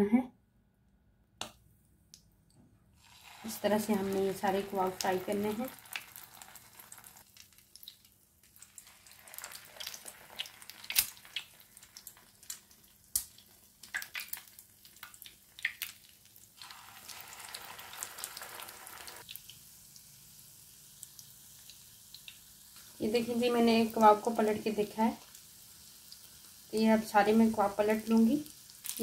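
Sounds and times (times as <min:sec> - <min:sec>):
food frying in hot oil: 0:03.0 - 0:29.0.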